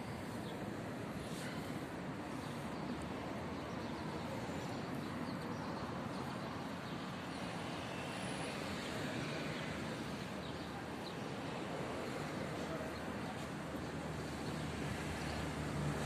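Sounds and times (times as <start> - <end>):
distant street traffic hum: 0.0 - 16.0.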